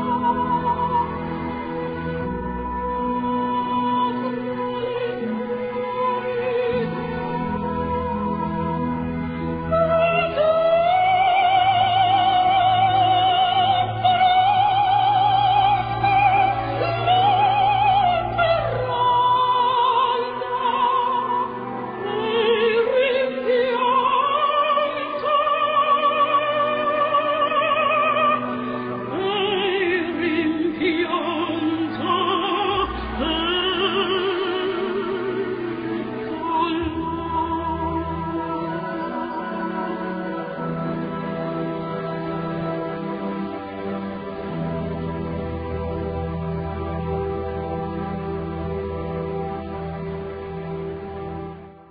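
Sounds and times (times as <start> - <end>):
operatic singing voice: 0.0 - 50.0
low musical accompaniment: 0.0 - 51.9.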